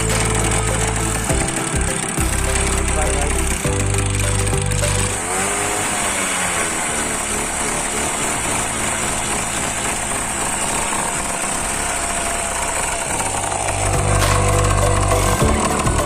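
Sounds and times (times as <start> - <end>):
scooter engine revving: 0.0 - 16.0.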